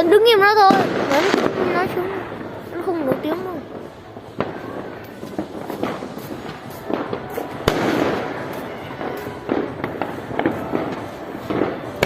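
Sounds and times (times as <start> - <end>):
fireworks crackling: 0.0 - 12.0
firework bang: 0.5 - 12.0.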